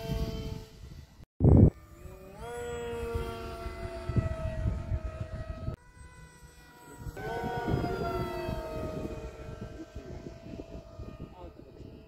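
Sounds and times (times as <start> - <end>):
model plane motor whining: 0.0 - 12.0
wind rumble on microphone: 0.0 - 12.0.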